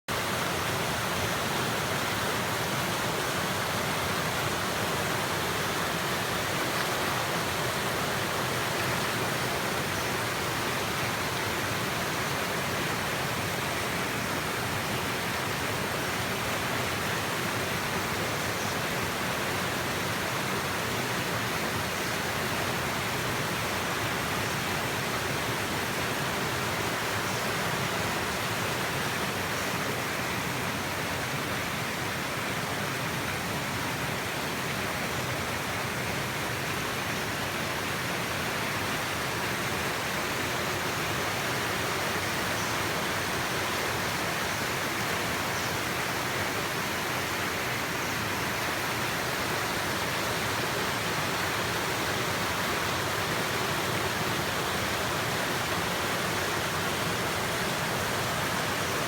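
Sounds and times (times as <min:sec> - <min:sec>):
waterfall roaring: 0:00.1 - 0:59.0.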